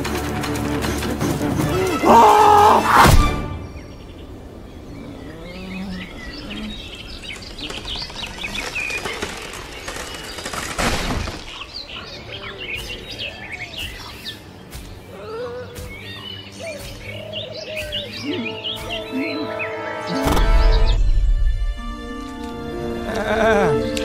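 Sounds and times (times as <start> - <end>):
forest birds chirping: 0.0 - 24.0.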